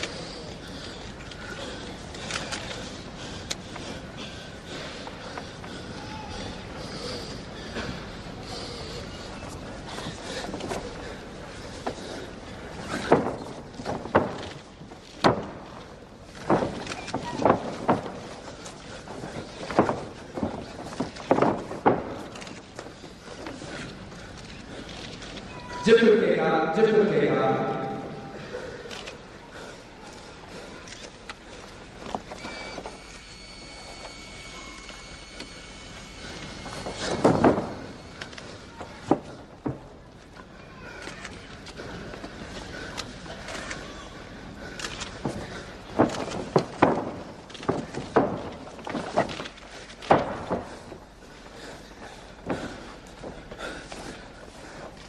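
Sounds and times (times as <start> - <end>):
arena background noise: 0.0 - 55.0.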